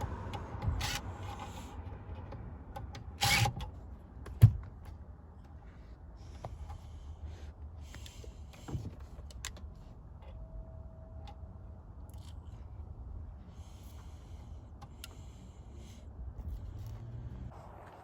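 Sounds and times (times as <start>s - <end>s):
low steady hum: 0.0s - 17.8s.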